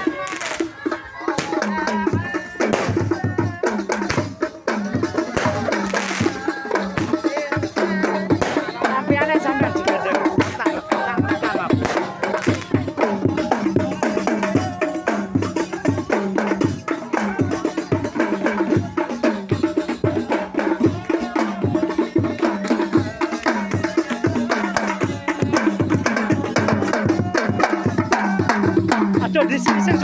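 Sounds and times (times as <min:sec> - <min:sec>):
hand drums beating: 0:00.0 - 0:30.0
voices singing: 0:00.0 - 0:30.0.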